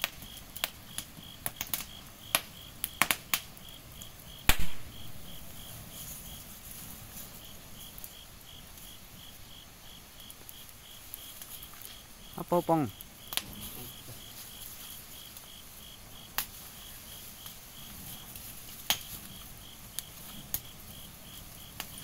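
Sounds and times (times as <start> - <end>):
fire crackling and popping: 0.0 - 22.0
insect chirping: 0.0 - 22.0.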